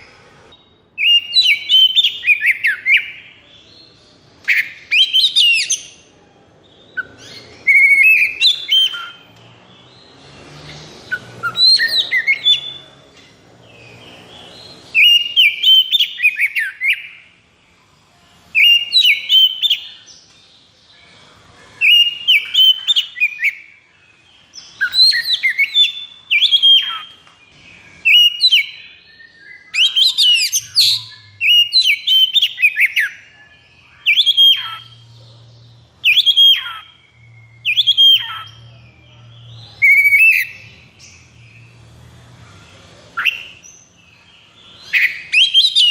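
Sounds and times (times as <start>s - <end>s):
magpie-robin singing: 0.0s - 13.0s, 13.6s - 17.4s, 18.4s - 21.0s, 21.7s - 45.9s.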